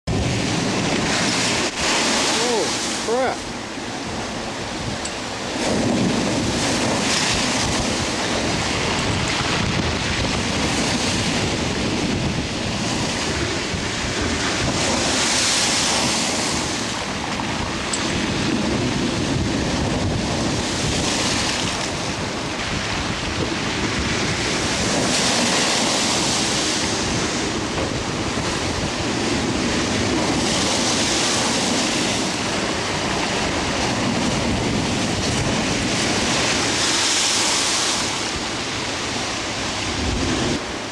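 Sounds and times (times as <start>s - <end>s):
surf pounding a sea wall: 0.1s - 40.9s
wind buffeting microphone: 0.1s - 40.9s.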